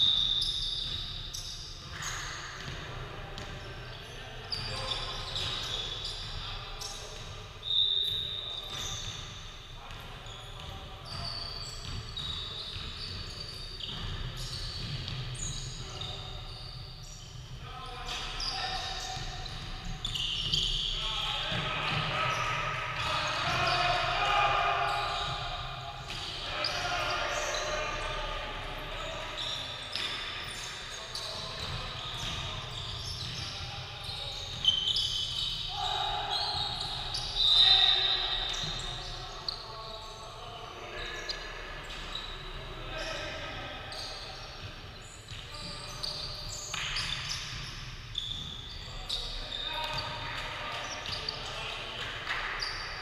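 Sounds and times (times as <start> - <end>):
sneakers squeaking on floor: 0.0 - 53.0.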